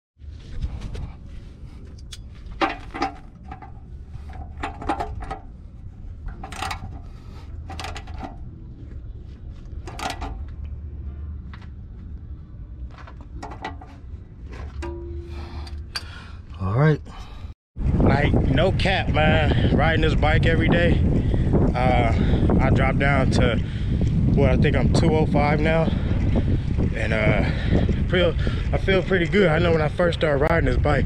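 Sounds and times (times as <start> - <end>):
steady low rumble: 0.2 - 31.0.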